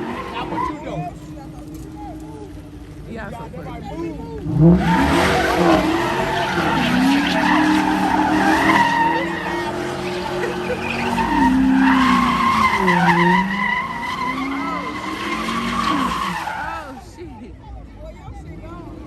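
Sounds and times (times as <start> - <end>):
car engine at high revs: 0.0 - 17.1
tires squealing: 0.0 - 17.2.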